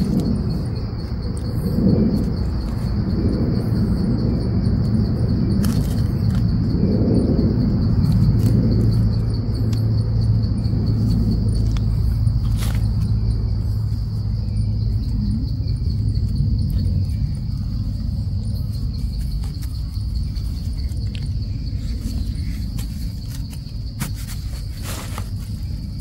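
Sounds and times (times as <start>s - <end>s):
insects trilling: 0.0s - 26.0s
low rumble: 0.0s - 26.0s.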